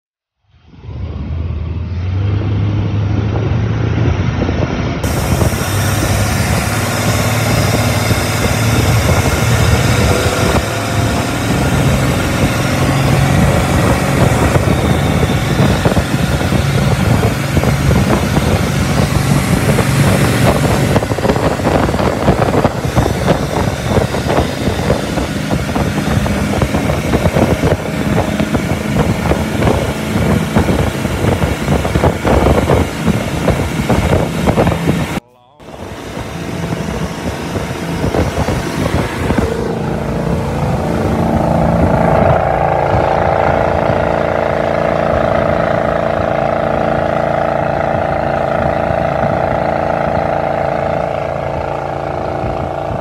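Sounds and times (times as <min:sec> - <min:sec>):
boat engine running: 0:01.0 - 0:53.0.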